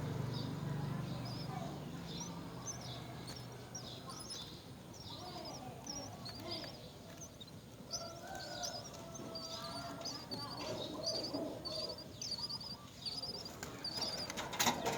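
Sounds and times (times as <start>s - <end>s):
birds chirping: 0.0s - 14.9s
lower steady bird call: 0.0s - 14.9s.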